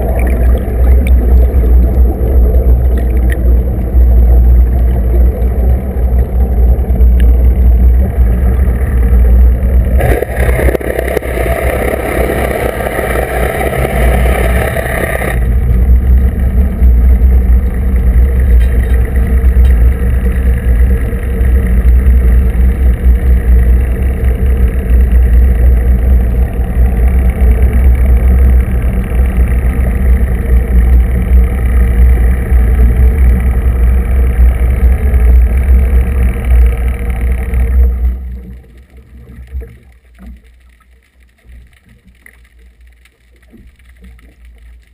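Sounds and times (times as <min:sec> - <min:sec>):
underwater engine drone: 0:00.0 - 0:44.9
water and bubbles along hull: 0:00.0 - 0:44.9.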